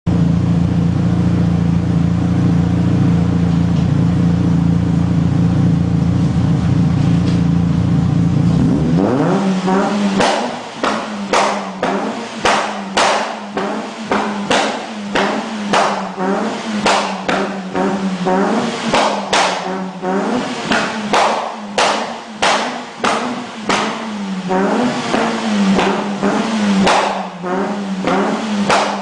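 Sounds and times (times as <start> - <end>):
car engine at raised rpm: 0.1 - 29.0
engine throttle blips: 0.1 - 29.0.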